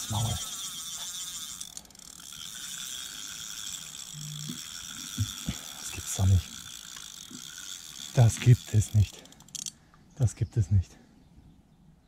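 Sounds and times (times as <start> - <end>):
fishing reel ratcheting: 0.0 - 9.8.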